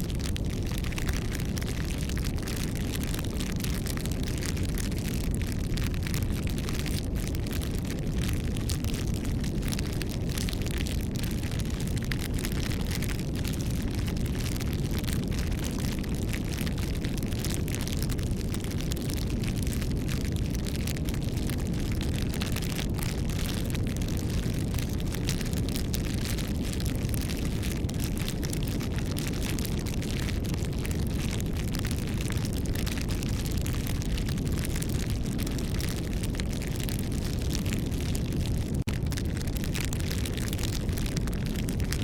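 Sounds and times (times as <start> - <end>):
burning wood crackling: 0.0 - 42.0.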